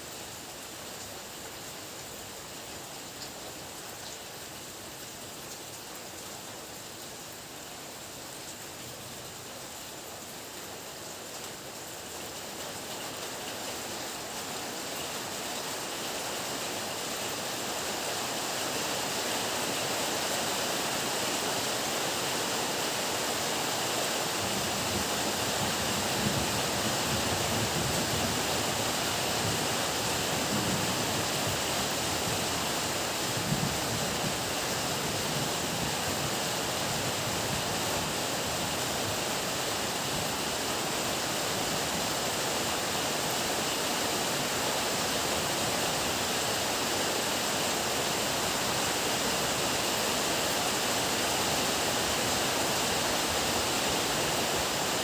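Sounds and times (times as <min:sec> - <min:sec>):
heavy rain pouring: 0:10.7 - 0:55.0.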